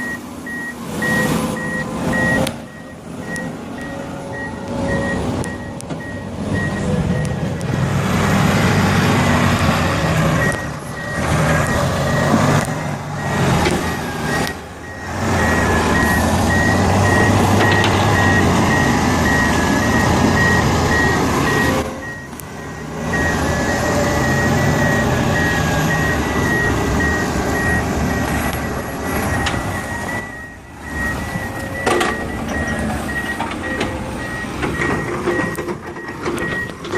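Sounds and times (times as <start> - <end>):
back-up alarm beeping: 0.0 - 7.9, 9.0 - 36.9
heavy machine engine running: 0.0 - 36.9.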